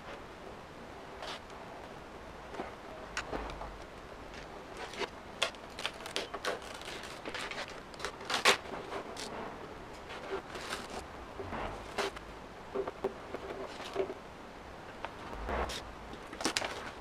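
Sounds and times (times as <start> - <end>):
vinyl film crackling: 1.1 - 17.0.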